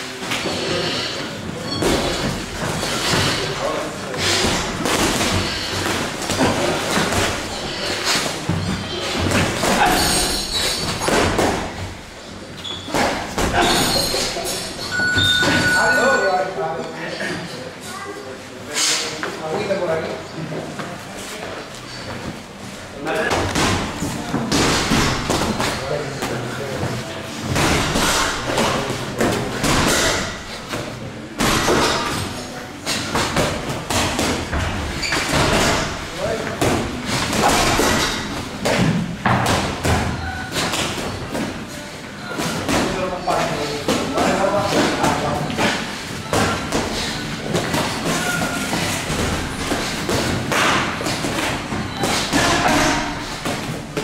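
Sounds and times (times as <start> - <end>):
footwork on ring canvas: 0.3 - 15.8, 21.2 - 54.0.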